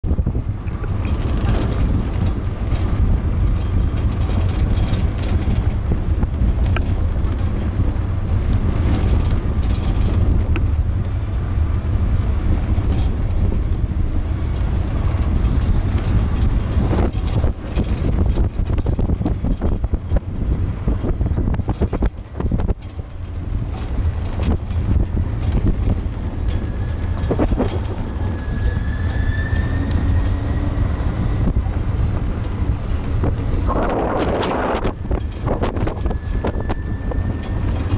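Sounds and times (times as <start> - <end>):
road rumble: 0.0 - 37.9
wind buffeting microphone: 0.0 - 37.9.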